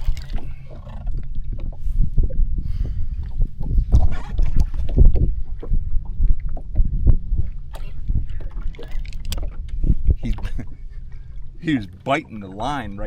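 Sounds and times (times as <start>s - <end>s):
water sloshing and splashing: 0.0s - 13.0s
wind buffeting microphone: 0.0s - 13.0s.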